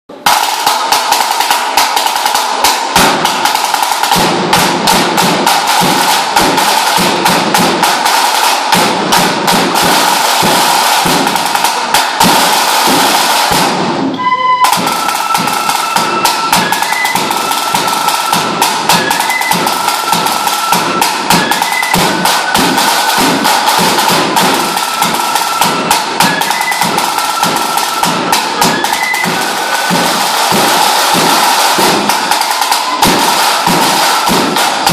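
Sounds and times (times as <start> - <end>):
drum beaten with canes: 0.1 - 34.9.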